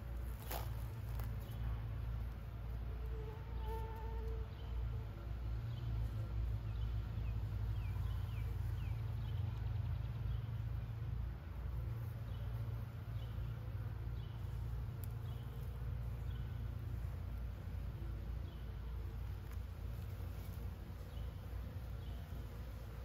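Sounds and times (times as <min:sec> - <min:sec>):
bees buzzing: 0:03.1 - 0:23.0.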